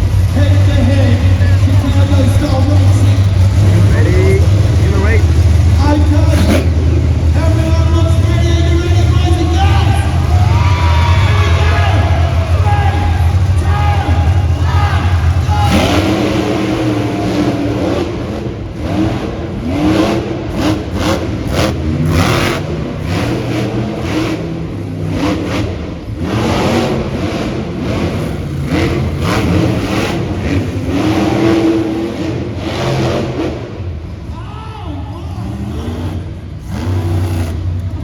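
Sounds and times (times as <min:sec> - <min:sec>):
monster truck engines revving: 0:00.0 - 0:38.0.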